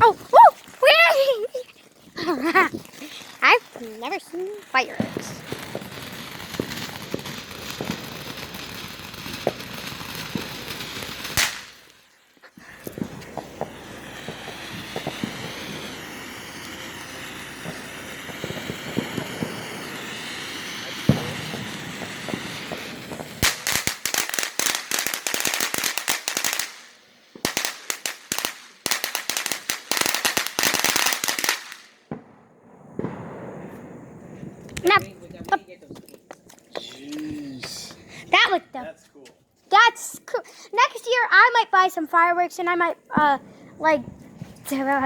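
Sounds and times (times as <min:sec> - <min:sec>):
firework rapid crackling: 0:00.0 - 0:38.9, 0:39.7 - 0:45.0
ground firework hissing: 0:00.0 - 0:38.9, 0:39.6 - 0:45.0.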